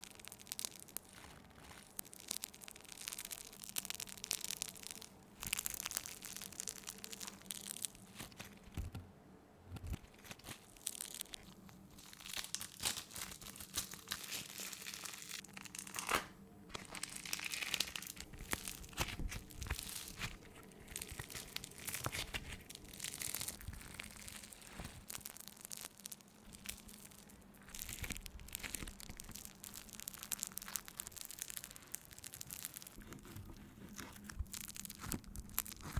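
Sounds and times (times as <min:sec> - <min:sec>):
foam clay crackling and tearing: 0:00.0 - 0:09.0, 0:09.7 - 0:35.9.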